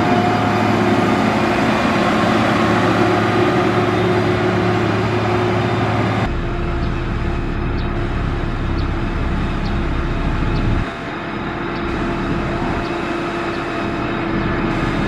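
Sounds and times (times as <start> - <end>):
diesel construction machine running: 0.0 - 15.0.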